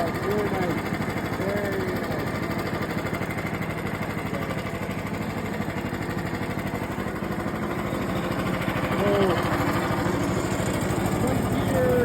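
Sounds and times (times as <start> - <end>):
gasoline engine running: 0.0 - 12.0.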